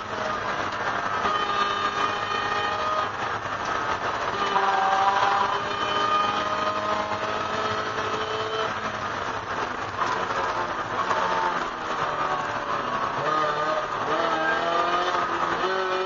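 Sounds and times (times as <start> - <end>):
car engine running: 0.0 - 16.0
wind and tyre noise: 0.0 - 16.0.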